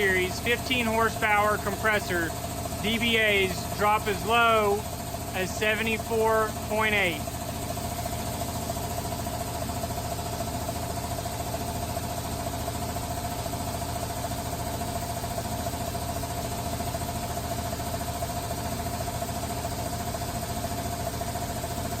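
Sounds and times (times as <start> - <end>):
air compressor running: 0.0 - 22.0.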